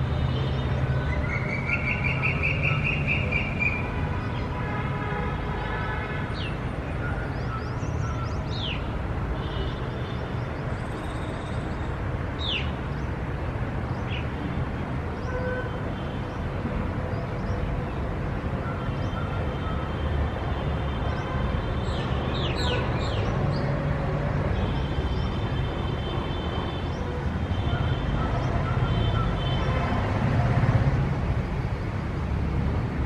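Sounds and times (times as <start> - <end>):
distant traffic rumble and hiss: 0.0 - 33.0.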